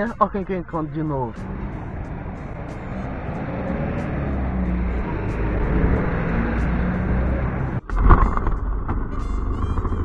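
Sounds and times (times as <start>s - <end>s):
road and street noise: 0.0s - 10.0s
vehicle engine running: 0.0s - 10.0s.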